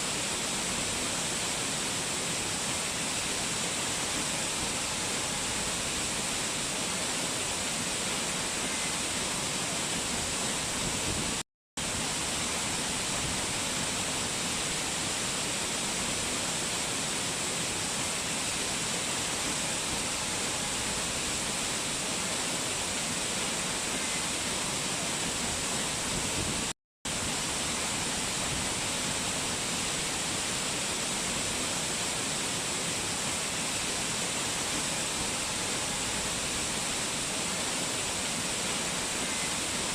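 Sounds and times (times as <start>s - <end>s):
rushing mountain water: 0.0s - 39.9s.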